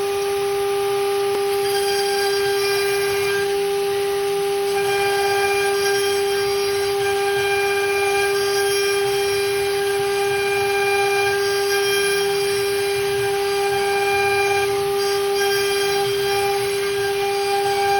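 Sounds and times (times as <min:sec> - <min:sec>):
router spindle whine: 0:00.0 - 0:17.9.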